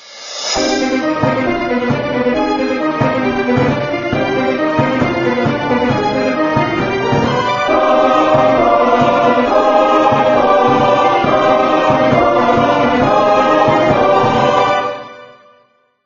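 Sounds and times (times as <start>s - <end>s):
choir singing held chords: 0.1s - 15.5s.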